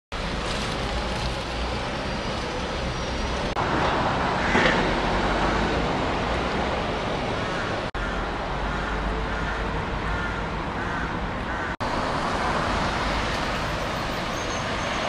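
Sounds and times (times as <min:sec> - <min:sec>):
cars and buses on wet roads: 0:00.1 - 0:15.0.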